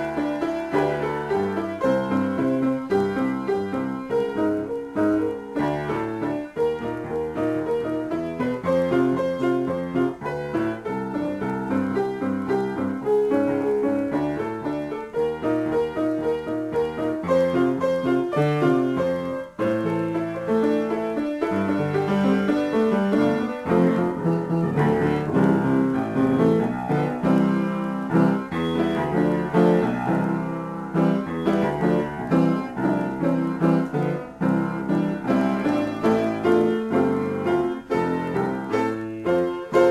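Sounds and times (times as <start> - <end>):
solo piano improvisation: 0.0 - 39.9.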